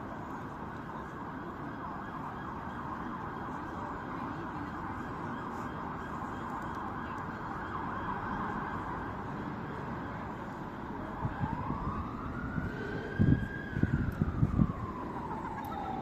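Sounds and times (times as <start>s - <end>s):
emergency vehicle siren wailing: 0.0s - 16.0s.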